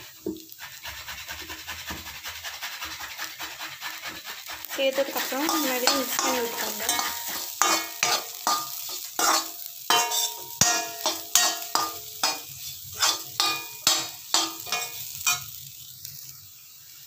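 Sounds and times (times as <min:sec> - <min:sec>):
metal spatula scraping pan: 0:00.0 - 0:15.6
faint sizzle of frying: 0:00.0 - 0:17.0.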